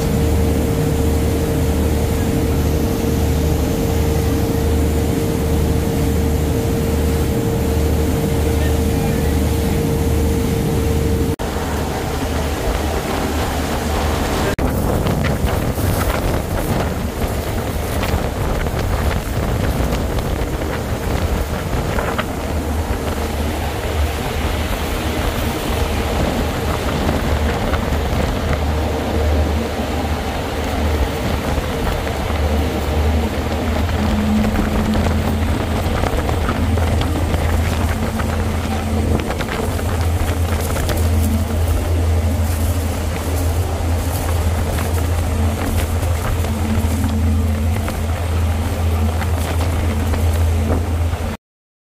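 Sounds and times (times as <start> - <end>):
boat rushing through water: 0.0 - 51.4
wind rumbling on microphone: 0.0 - 51.4.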